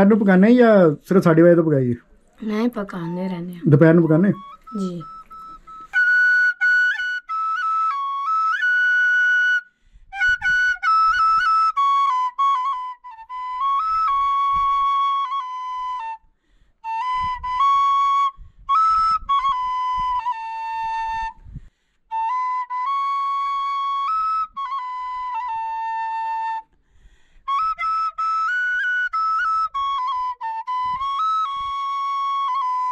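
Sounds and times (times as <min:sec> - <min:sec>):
wooden flute folk melody: 0:02.4 - 0:32.9.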